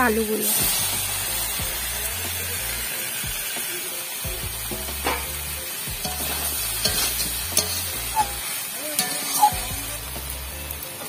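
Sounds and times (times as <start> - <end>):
curry sizzling in hot oil: 0.0 - 11.0.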